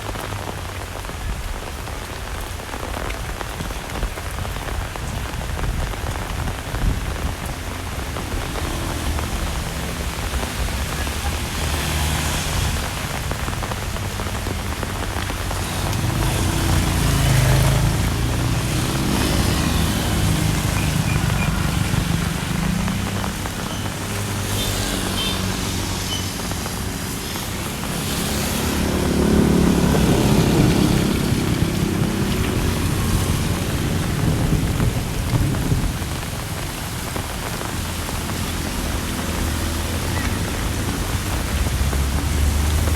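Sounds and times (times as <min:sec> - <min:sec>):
heavy rain falling: 0:00.0 - 0:42.9
vehicle engine hum: 0:04.2 - 0:42.9.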